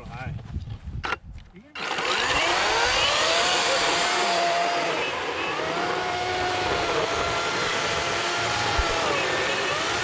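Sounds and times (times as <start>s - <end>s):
electric chainsaw cutting wood: 1.8s - 10.0s.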